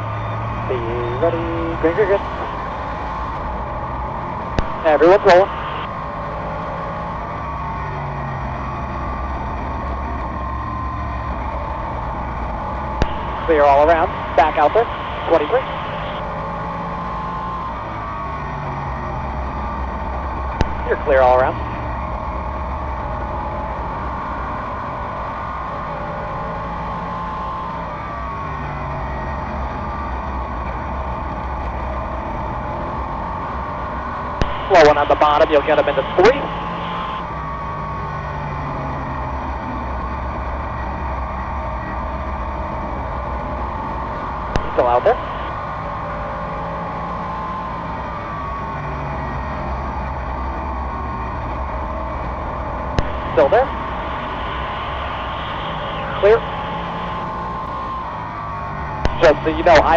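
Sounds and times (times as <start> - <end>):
race car engine droning: 0.0 - 59.9.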